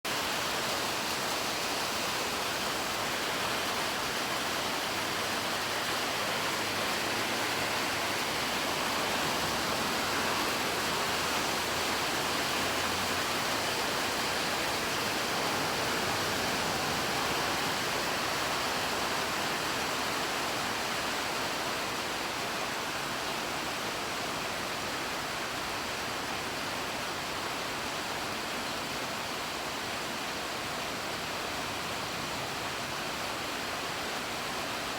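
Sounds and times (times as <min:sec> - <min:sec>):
rain falling steadily: 0:00.1 - 0:34.9.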